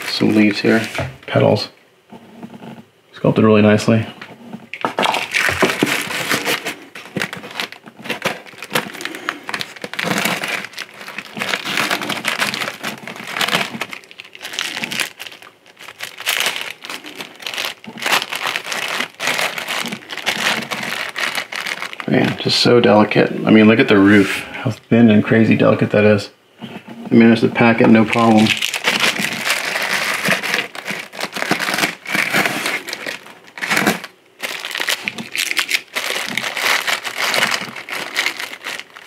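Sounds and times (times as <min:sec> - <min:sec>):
plastic bags crinkling: 0:00.0 - 0:01.5, 0:04.7 - 0:24.4, 0:27.1 - 0:39.0.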